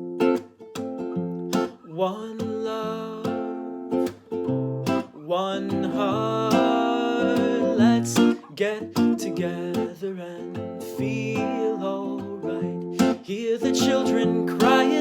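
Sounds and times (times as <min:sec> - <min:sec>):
acoustic guitar reggae chords: 0:00.0 - 0:15.0.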